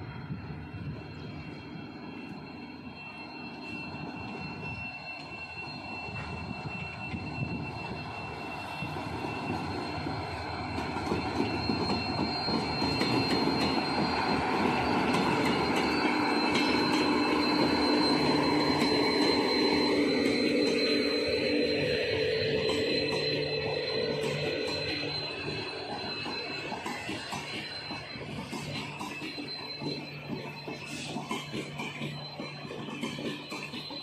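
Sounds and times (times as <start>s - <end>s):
passenger train passing: 0.0s - 34.0s
thin high whine: 0.0s - 34.0s.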